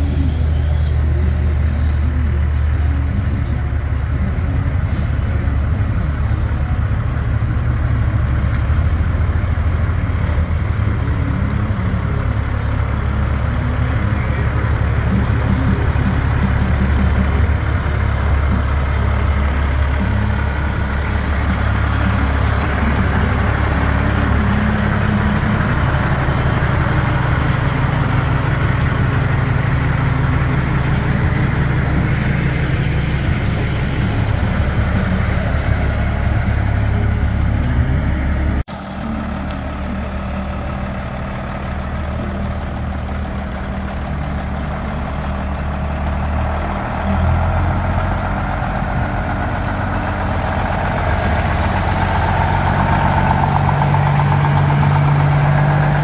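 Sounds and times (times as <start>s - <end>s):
truck diesel engine rumbling: 0.0s - 56.0s.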